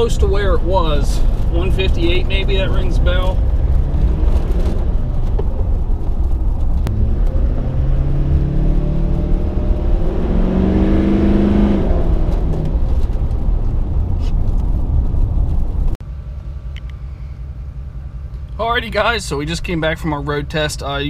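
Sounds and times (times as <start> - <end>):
diesel engine accelerating: 0.0 - 21.0
road rumble: 0.0 - 21.0.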